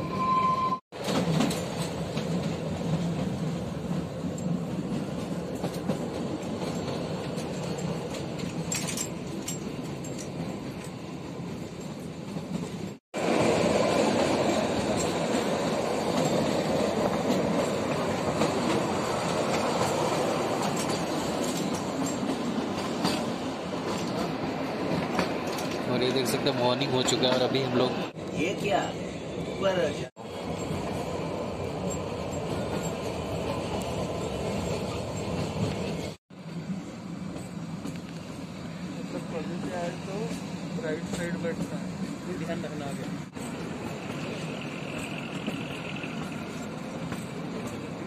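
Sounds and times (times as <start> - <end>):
train wheels rattling on rails: 0.9 - 48.0.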